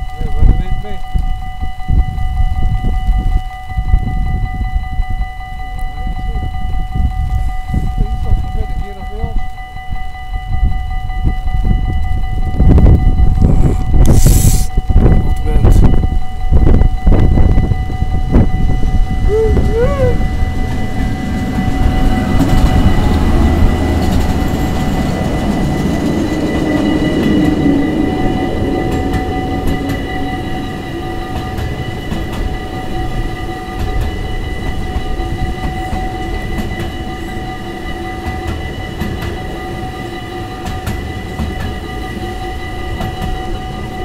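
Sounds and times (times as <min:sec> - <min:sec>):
high-pitched whining tones: 0:00.0 - 0:44.0
train wheels rumbling on rail: 0:00.0 - 0:44.0.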